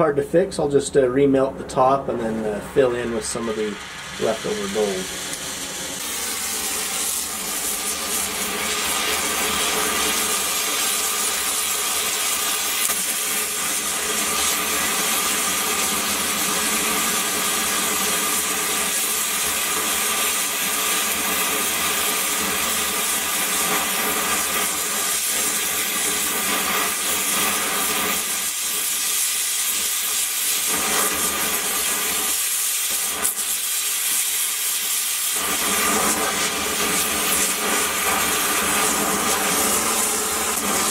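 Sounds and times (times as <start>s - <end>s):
gas torch flame hissing: 2.1s - 40.9s.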